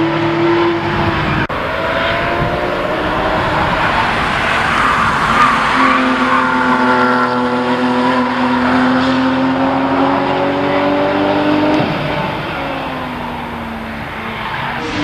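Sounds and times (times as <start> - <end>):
sports car engine accelerating: 0.0 - 15.0.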